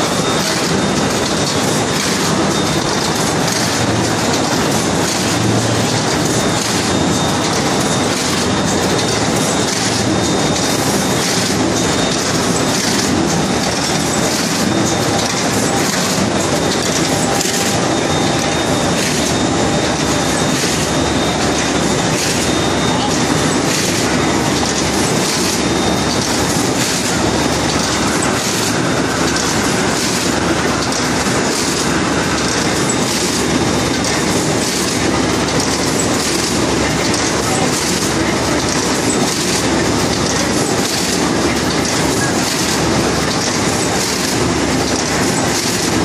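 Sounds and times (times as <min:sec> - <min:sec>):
machine clatter of rollers and belts: 0:00.0 - 0:46.0.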